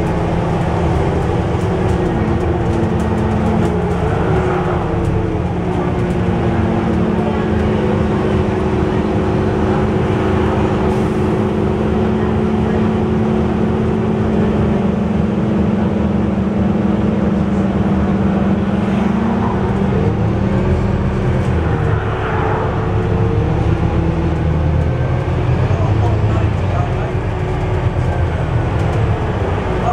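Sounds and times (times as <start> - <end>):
bus engine drone: 0.0 - 29.9
road noise: 0.0 - 29.9.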